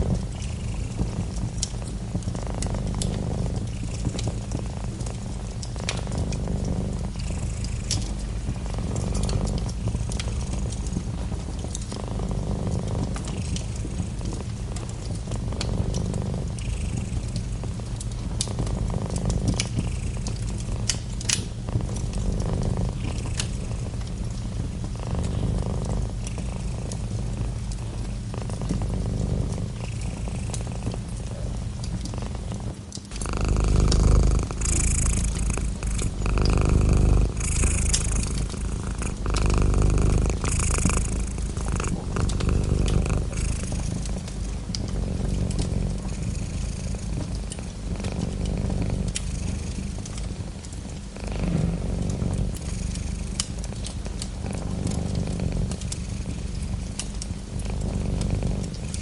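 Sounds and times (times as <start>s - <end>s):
cat purring: 0.0s - 59.0s
fireplace crackling and popping: 0.0s - 59.0s.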